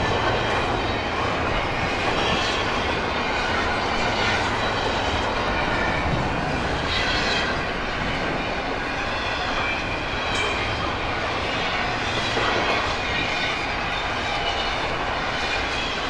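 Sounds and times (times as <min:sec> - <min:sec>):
freight train wheels rattling: 0:00.0 - 0:16.0.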